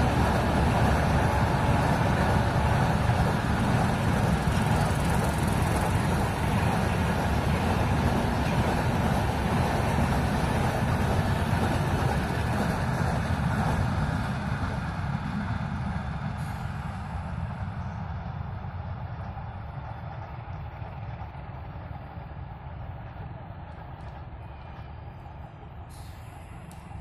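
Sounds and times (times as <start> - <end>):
passenger train rumbling past: 0.0 - 27.0.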